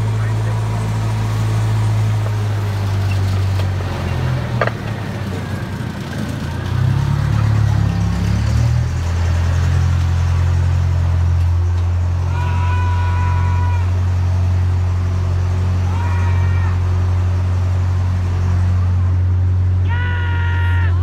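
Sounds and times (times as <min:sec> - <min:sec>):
train engine droning: 0:00.0 - 0:21.0.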